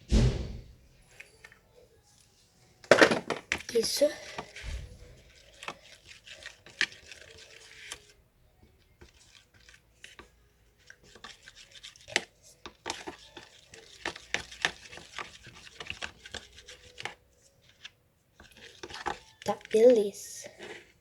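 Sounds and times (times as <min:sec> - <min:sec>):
utensil being handled: 0:02.2 - 0:08.2, 0:09.0 - 0:21.0
plastic containers clicking and scraping: 0:02.2 - 0:21.0.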